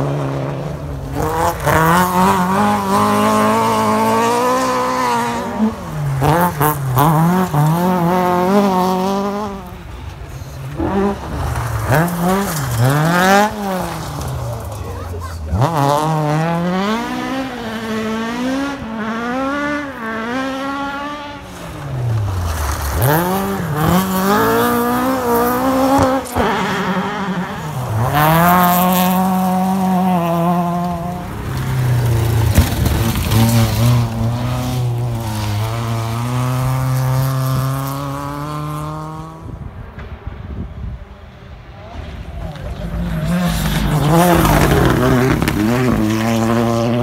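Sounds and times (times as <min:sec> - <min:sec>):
rally car engines revving: 0:00.0 - 0:47.0.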